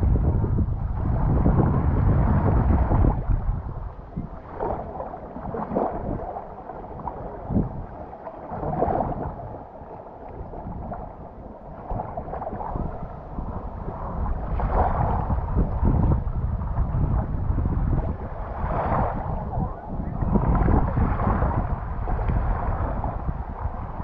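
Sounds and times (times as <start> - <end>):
sea waves washing ashore: 0.0 - 24.0
wind gusting on microphone: 0.0 - 24.0.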